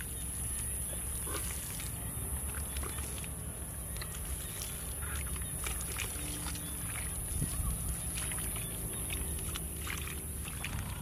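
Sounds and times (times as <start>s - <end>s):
hands squelching wet mud: 0.0s - 11.0s
steady low rumble: 0.0s - 11.0s.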